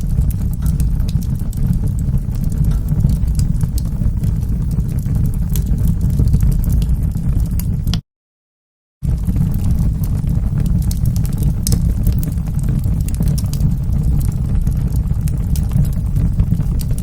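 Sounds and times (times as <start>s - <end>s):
wood fire crackling and popping: 0.0s - 8.0s, 9.0s - 17.0s.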